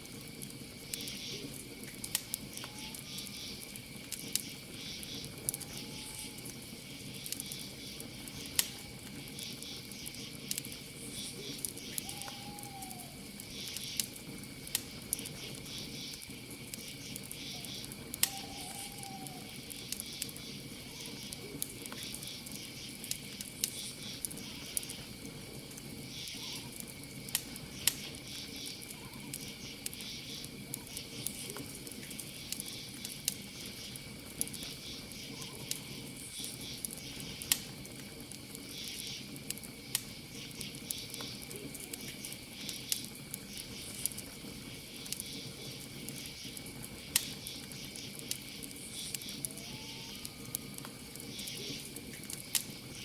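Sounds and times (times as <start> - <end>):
campfire crackling and popping: 0.0 - 53.0
crickets trilling: 0.0 - 53.0
insects chirping in pulses: 0.0 - 53.0.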